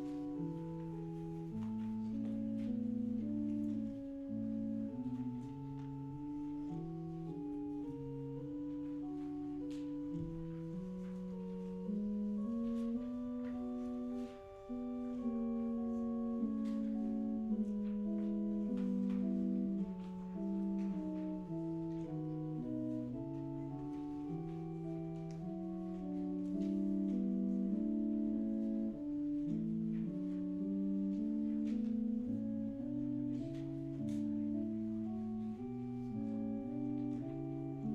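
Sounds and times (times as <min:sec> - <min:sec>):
organ playing held chords: 0:00.0 - 0:37.9.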